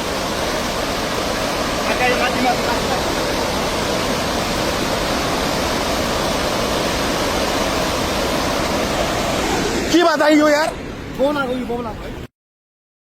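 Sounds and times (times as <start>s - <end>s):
river floodwater rushing: 0.0s - 12.3s.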